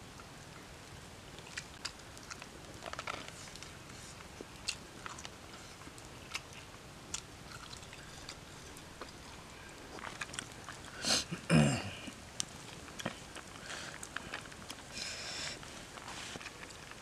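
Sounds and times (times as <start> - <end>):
man chewing food: 1.3 - 17.0.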